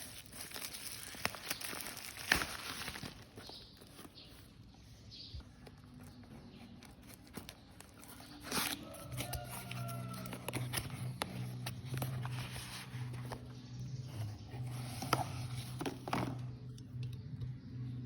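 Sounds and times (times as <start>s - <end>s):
rustling and crinkling handling: 0.0s - 16.7s.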